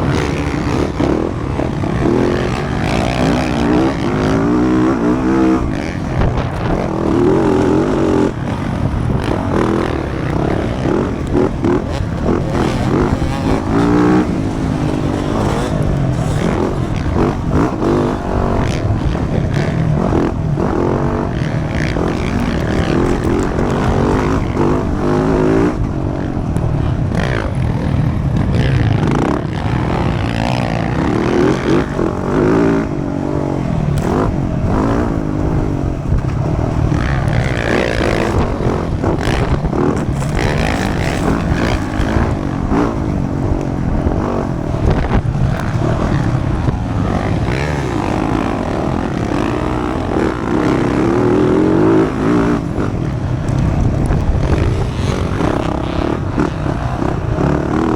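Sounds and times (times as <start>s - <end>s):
dirt bike engine revving: 0.0s - 57.9s
steady rushing noise: 0.0s - 57.9s.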